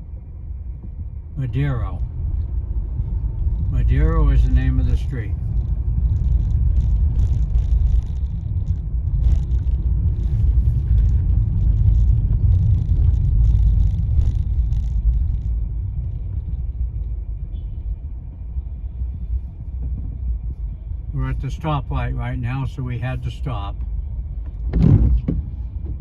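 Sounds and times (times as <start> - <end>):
car rumble from inside cabin: 0.0 - 26.0.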